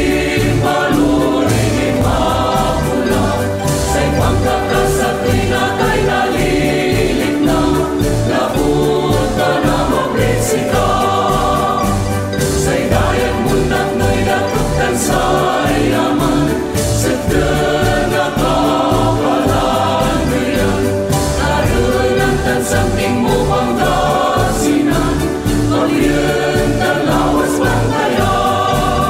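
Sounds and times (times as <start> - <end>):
choir singing: 0.0 - 29.0
instrumental accompaniment: 0.0 - 29.0.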